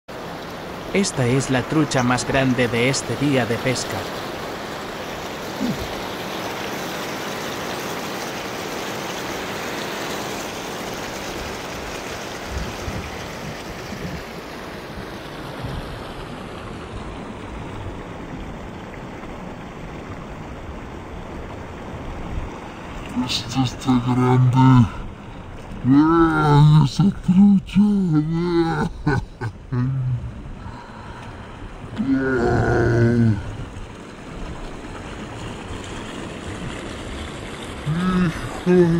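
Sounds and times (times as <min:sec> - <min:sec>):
river rushing over stones: 0:00.1 - 0:38.9.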